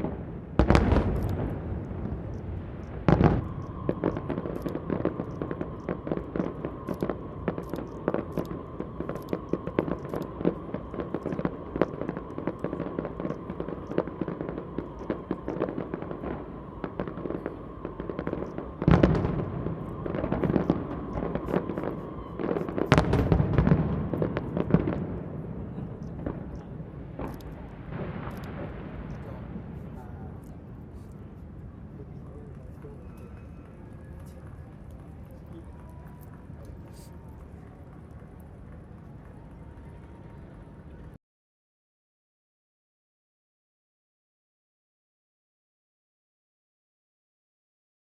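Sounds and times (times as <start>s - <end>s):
fireworks booming bursts: 0.0s - 40.9s
fireworks crackling pops: 0.0s - 41.2s.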